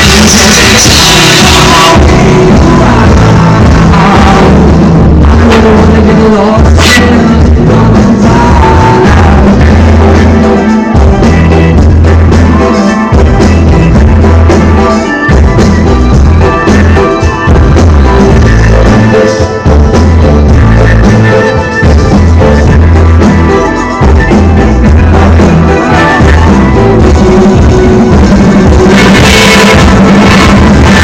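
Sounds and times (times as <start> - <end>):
drum kit: 0.0 - 31.0
heavy bass: 0.0 - 31.0
live band playing: 0.0 - 31.0.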